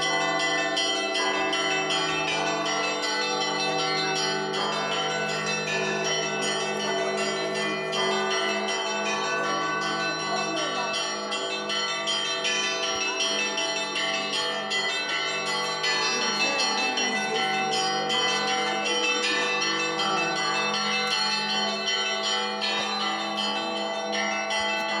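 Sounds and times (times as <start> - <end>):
large deep bells ringing: 0.0 - 25.0
small church bells ringing quickly: 0.0 - 25.0.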